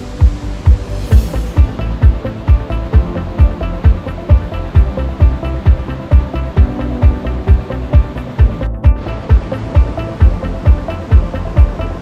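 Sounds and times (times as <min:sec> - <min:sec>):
music with kick-drum beat: 0:00.0 - 0:12.0.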